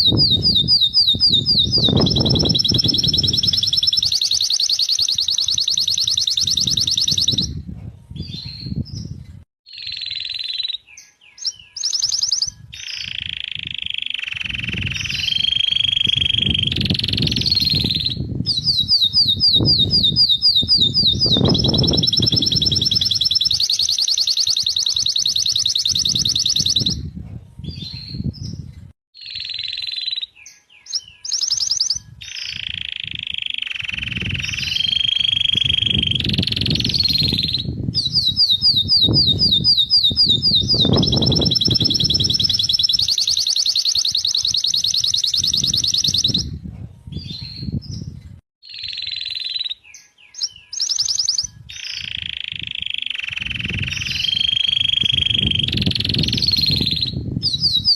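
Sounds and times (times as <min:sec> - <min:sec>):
canary singing trills: 0:00.0 - 0:07.6, 0:08.2 - 0:28.6, 0:29.2 - 0:57.9.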